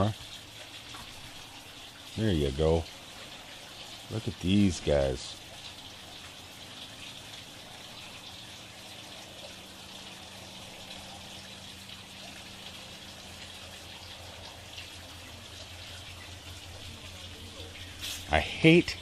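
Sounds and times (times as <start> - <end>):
splashing running water: 0.0 - 19.0.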